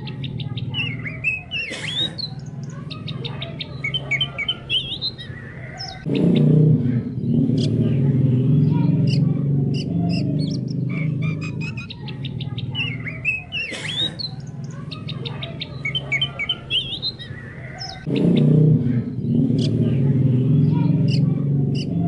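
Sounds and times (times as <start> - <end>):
frogs croaking: 0.0 - 22.0
songbird chirping and whistling: 0.0 - 22.0.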